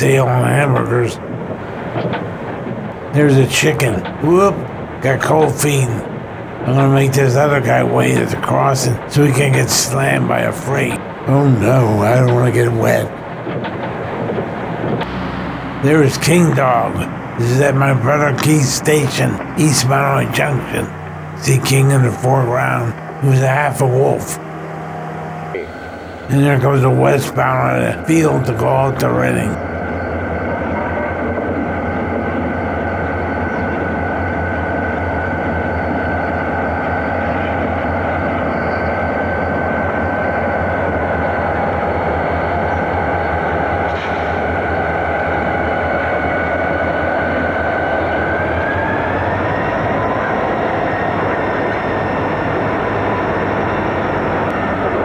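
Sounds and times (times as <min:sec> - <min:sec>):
diesel locomotives passing: 0:00.0 - 0:55.0
steady engine whine: 0:00.0 - 0:55.0.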